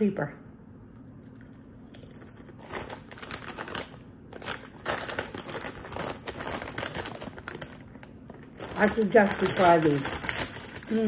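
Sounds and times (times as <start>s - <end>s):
plastic chip bag crinkling: 1.9s - 11.0s.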